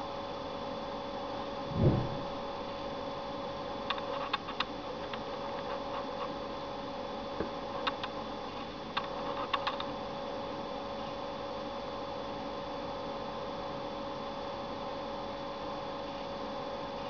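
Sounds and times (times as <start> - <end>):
electrical hum with whine: 0.0 - 17.0.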